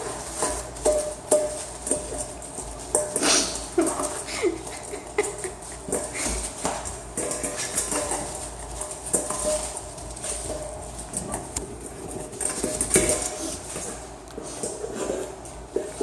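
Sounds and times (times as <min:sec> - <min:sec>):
puppies scuffling: 0:00.0 - 0:16.0.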